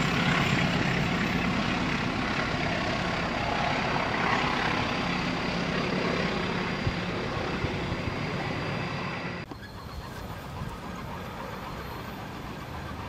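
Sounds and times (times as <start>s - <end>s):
distant diesel train running: 0.0s - 13.0s.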